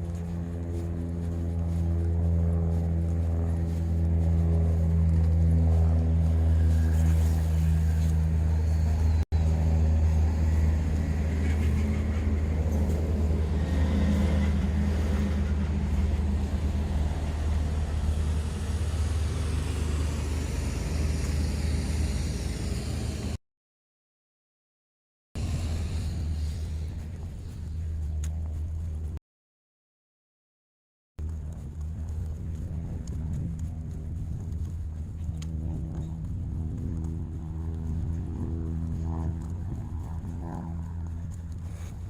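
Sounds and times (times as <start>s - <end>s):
low droning machine hum: 0.0s - 23.4s, 25.4s - 29.2s, 31.2s - 42.0s.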